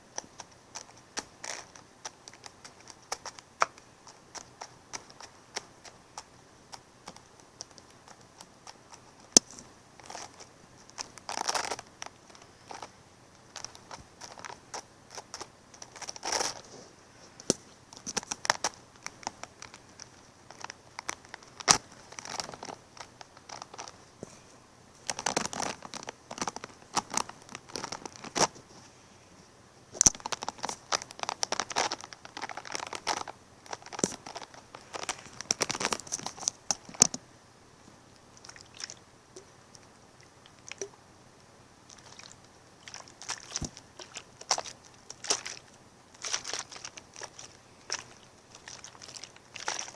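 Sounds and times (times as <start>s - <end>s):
crinkling and crunching: 0.0s - 29.0s, 29.9s - 37.2s, 38.2s - 41.0s, 41.9s - 49.9s.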